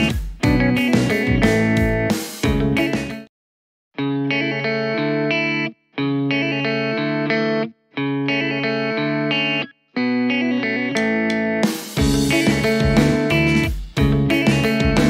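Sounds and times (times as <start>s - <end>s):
guitar music: 0.0s - 3.3s, 4.0s - 15.0s.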